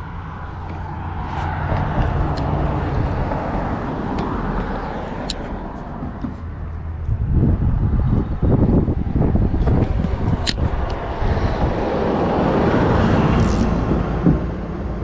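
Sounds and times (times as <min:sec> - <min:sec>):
road traffic passing: 0:00.0 - 0:15.0
wind buffeting microphone: 0:00.0 - 0:15.0.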